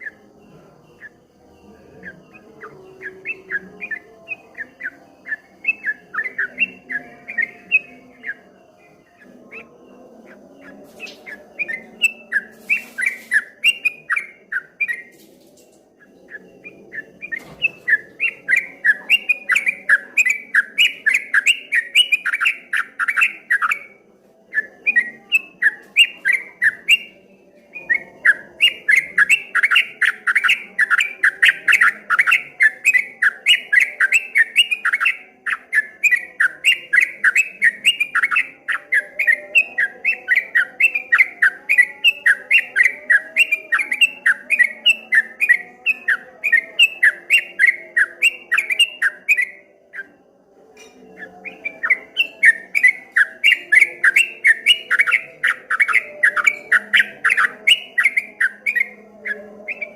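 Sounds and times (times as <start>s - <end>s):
bulbul singing fast chirps: 0.0s - 15.2s, 15.9s - 50.1s, 50.8s - 59.9s.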